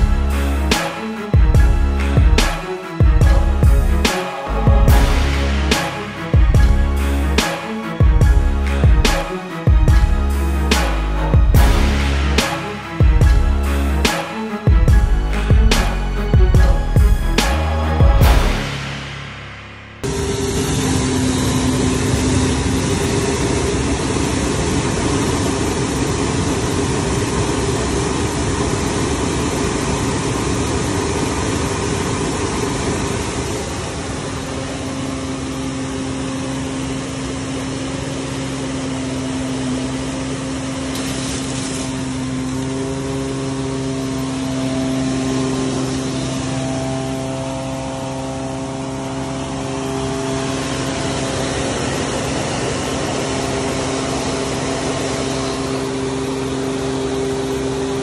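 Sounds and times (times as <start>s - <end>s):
vacuum truck machine hum: 0.0s - 58.0s.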